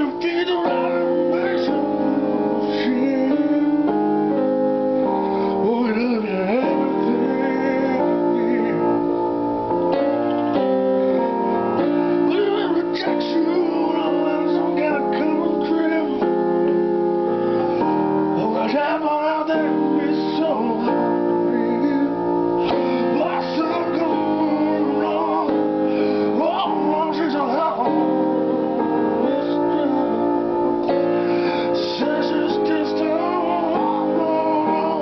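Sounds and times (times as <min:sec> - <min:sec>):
wavering singing voice: 0:00.0 - 0:04.3, 0:05.6 - 0:09.4, 0:11.7 - 0:17.1, 0:17.8 - 0:35.0
held chords: 0:00.0 - 0:35.0.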